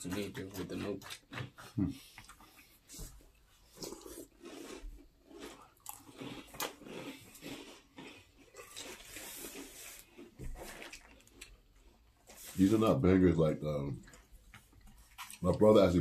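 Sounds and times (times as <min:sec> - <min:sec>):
people chewing crunchy cereal: 0:00.0 - 0:16.0.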